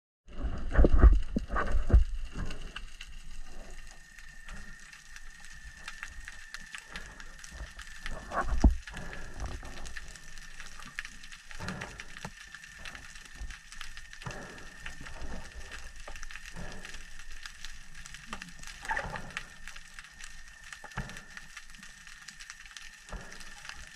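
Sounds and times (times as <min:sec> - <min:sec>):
underwater crackle of fine clicks: 0:00.8 - 0:23.9.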